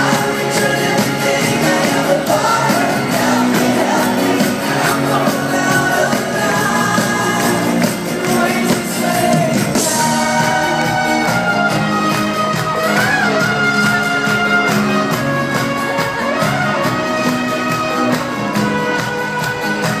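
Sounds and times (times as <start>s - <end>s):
live band with lead singer: 0.0s - 20.0s.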